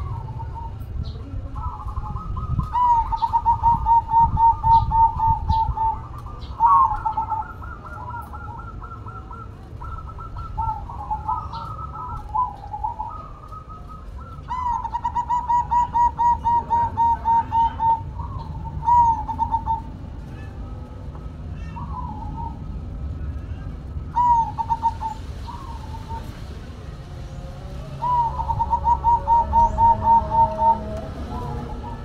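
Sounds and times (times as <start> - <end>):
dove cooing: 0.0 - 32.0.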